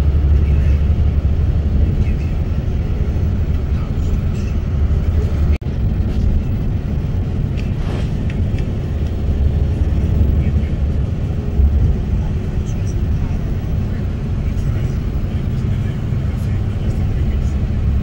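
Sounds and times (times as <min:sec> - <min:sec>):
road and engine noise inside vehicle: 0:00.0 - 0:18.0.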